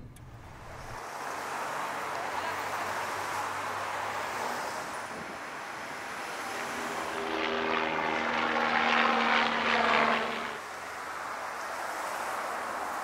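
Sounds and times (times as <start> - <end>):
engine droning: 0.0 - 10.8.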